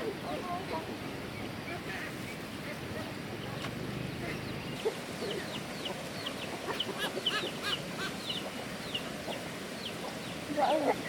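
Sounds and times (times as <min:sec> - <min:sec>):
chickens peeping and clucking: 0:00.0 - 0:11.0.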